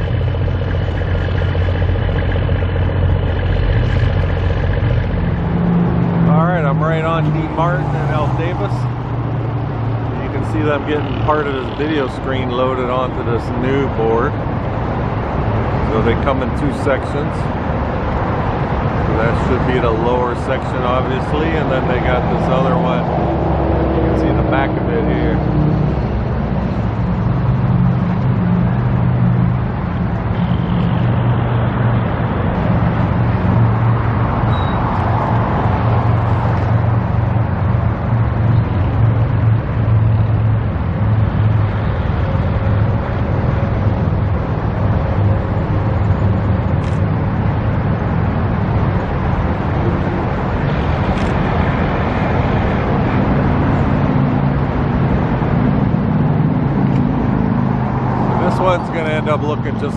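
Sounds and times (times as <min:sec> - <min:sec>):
road traffic noise: 0:00.0 - 0:59.9
vehicle engine running: 0:00.0 - 0:59.9.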